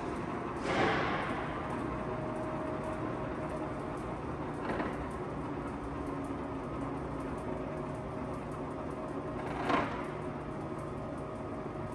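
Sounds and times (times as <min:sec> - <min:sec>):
lathe mechanical whir: 0:00.0 - 0:11.9.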